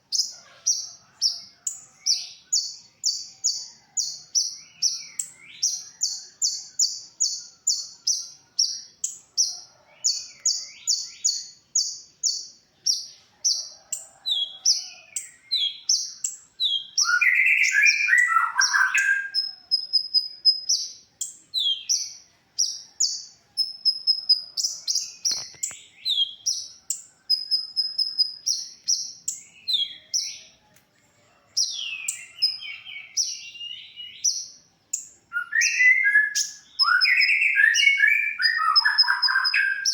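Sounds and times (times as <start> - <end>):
bird singing chirps and twitters: 0.0 - 30.6, 31.6 - 39.9.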